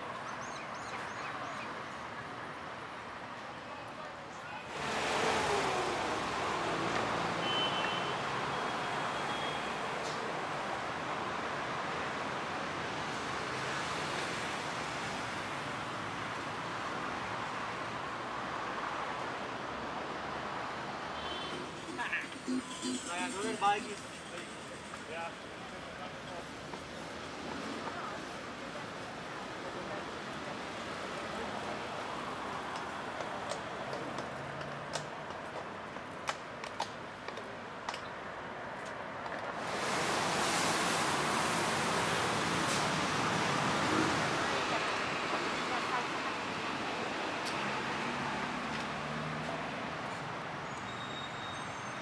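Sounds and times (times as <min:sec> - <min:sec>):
city traffic hum: 0:00.0 - 0:52.0.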